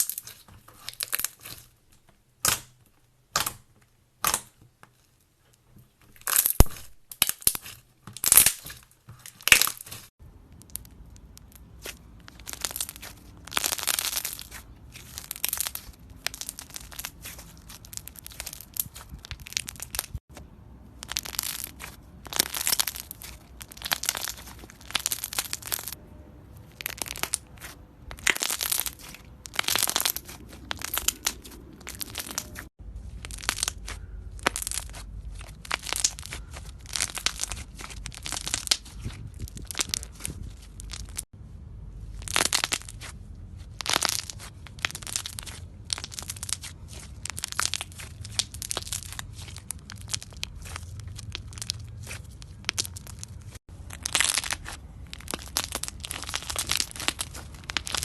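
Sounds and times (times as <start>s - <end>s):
brittle material crunching: 0.0s - 1.8s, 6.0s - 26.0s, 26.6s - 41.3s, 42.1s - 58.0s.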